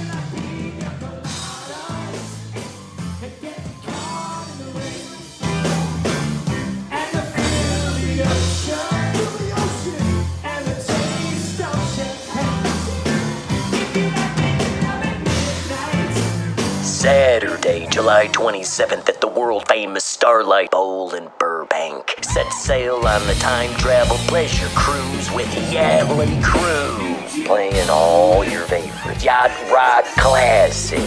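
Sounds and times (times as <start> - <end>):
person singing: 0.0 - 2.6, 6.9 - 31.0
bass: 0.0 - 18.4, 22.2 - 29.5, 30.2 - 31.0
drums: 0.0 - 18.5, 22.2 - 31.0
rock music: 0.0 - 19.7, 22.2 - 31.0.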